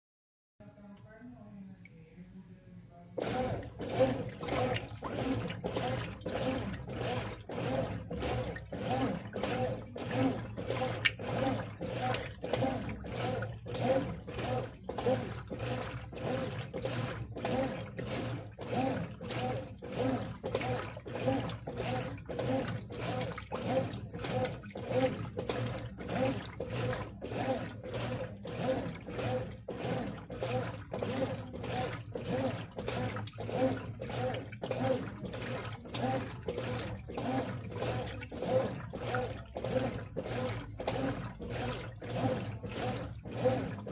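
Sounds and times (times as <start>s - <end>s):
washing machine motor hum: 3.0s - 43.9s
washing machine water sloshing: 3.2s - 43.9s.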